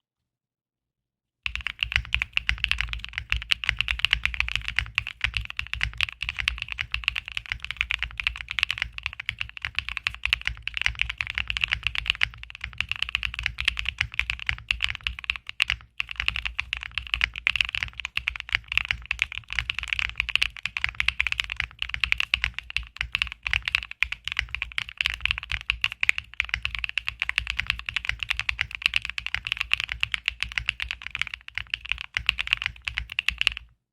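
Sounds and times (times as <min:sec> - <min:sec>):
mechanical keyboard typing clacks: 0:01.5 - 0:33.7.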